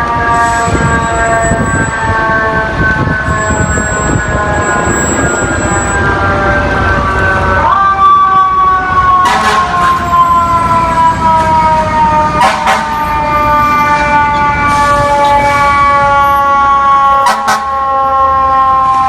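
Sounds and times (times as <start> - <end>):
fire truck mechanical siren: 0.0 - 19.0.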